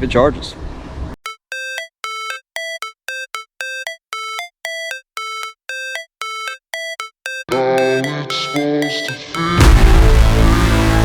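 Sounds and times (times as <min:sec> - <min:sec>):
electronic beeping music: 0:01.2 - 0:11.0
electronic track with bass: 0:01.3 - 0:11.0.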